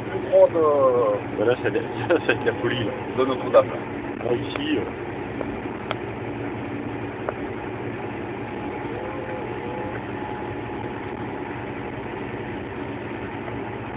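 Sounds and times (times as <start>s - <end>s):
tractor diesel engine running: 0.0s - 13.9s.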